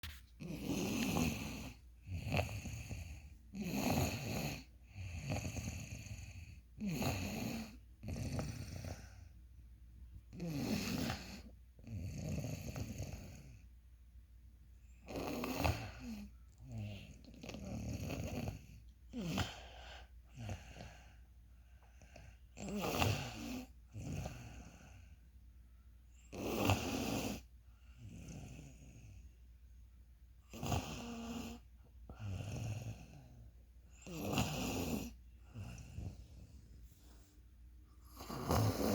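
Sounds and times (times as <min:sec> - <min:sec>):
rough noisy snoring: 0:00.4 - 0:09.2, 0:10.3 - 0:13.6, 0:15.0 - 0:21.1, 0:22.0 - 0:25.1, 0:26.3 - 0:29.2, 0:30.5 - 0:36.6, 0:38.0 - 0:38.9.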